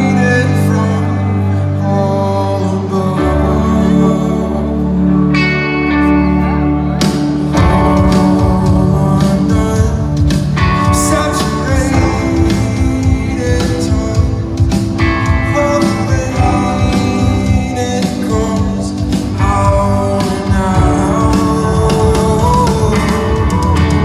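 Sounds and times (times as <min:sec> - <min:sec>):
electric guitar: 0:00.0 - 0:24.0
live rock band: 0:00.0 - 0:24.0
person singing: 0:00.0 - 0:24.0.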